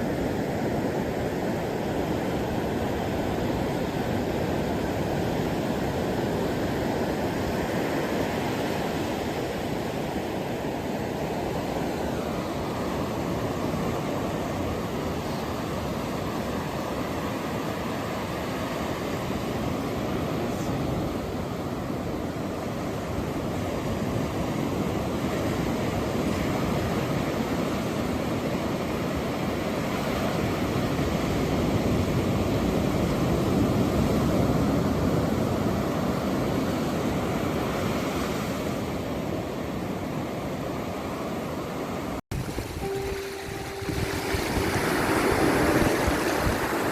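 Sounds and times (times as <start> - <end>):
ocean surf waves: 0.0 - 46.9.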